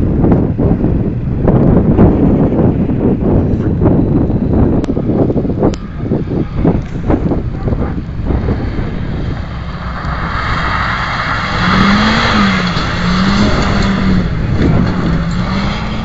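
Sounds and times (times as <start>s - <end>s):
rally car engine: 0.0s - 16.0s
rushing tyre noise: 0.0s - 16.0s.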